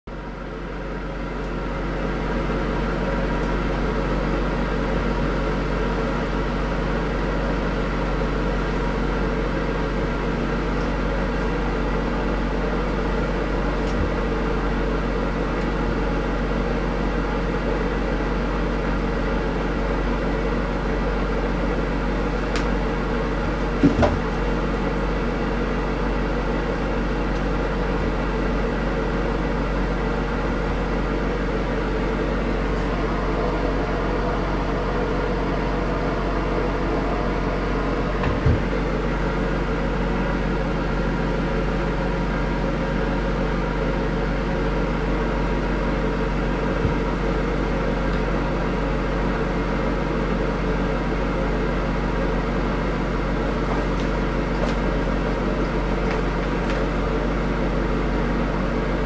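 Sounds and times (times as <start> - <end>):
mechanical hum with deep drone: 0.0 - 59.0.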